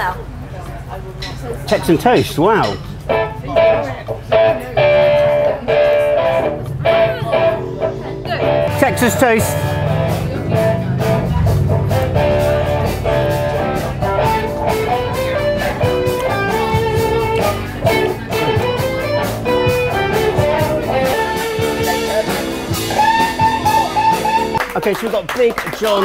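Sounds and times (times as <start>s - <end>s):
electric guitar: 2.9s - 24.7s
live blues-rock band: 2.9s - 24.7s.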